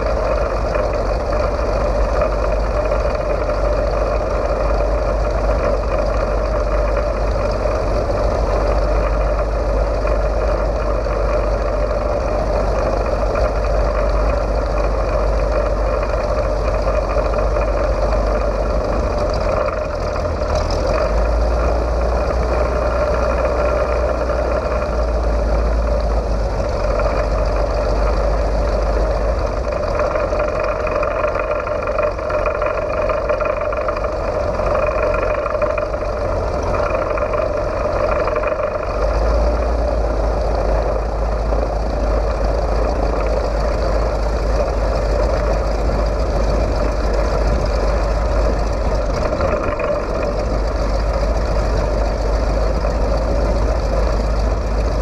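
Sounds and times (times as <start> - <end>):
radial aircraft engine running: 0.0 - 55.0.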